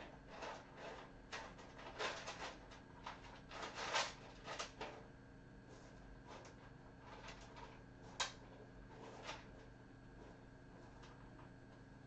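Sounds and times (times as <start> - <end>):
kitten scratching and rustling: 0.0 - 11.8.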